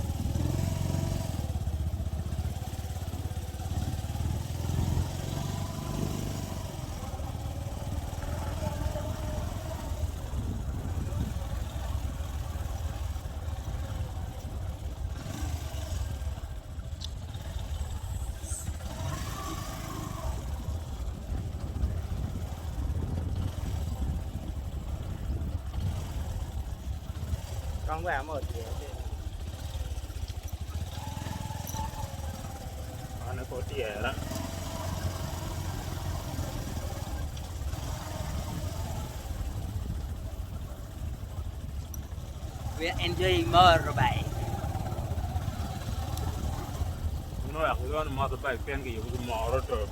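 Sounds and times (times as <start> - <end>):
motorcycle engine rumbling: 0.0 - 49.9.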